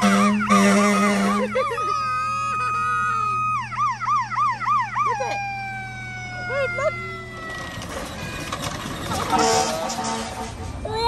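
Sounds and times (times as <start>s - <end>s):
fire truck siren: 0.0s - 11.0s.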